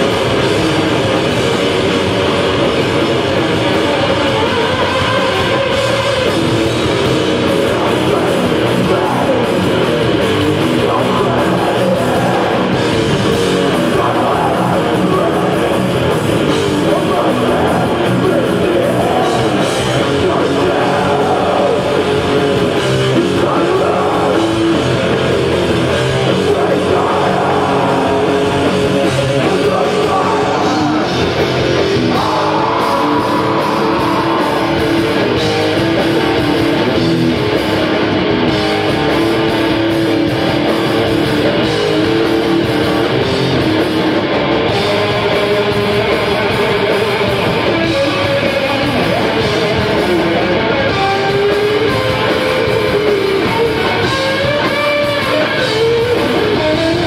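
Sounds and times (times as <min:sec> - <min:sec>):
live metal band playing: 0:00.0 - 0:57.0.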